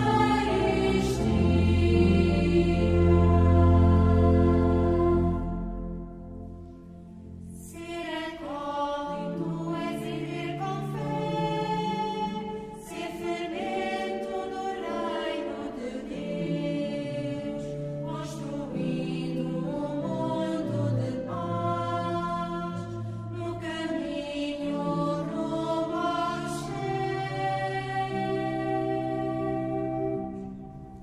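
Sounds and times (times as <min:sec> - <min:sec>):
choir singing a hymn: 0:00.0 - 0:06.6, 0:07.4 - 0:31.0.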